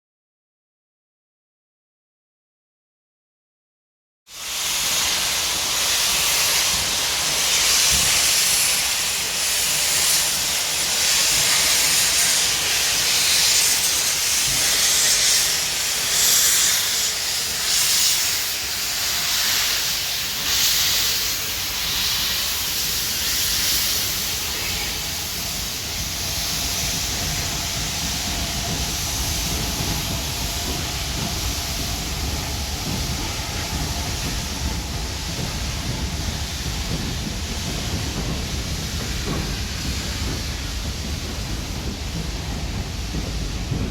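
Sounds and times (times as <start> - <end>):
steam hissing: 4.3 - 43.9
train rumbling: 4.3 - 43.9.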